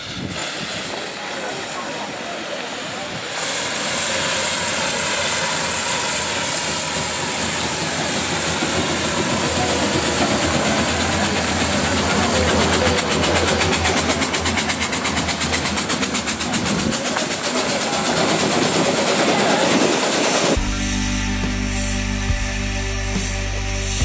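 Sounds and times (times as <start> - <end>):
steam hissing: 0.0 - 24.0
steam engine fast beat: 2.8 - 24.0.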